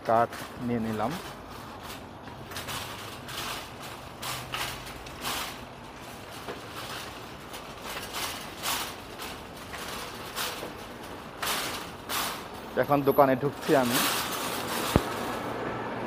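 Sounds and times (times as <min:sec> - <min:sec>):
sharp cart clatter: 0:00.0 - 0:15.6
shopping cart rattling on concrete: 0:00.0 - 0:16.0.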